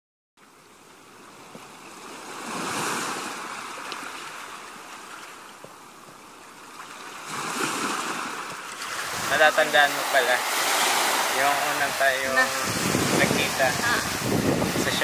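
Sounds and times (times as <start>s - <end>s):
ocean surf washing onto beach: 0.8s - 15.0s.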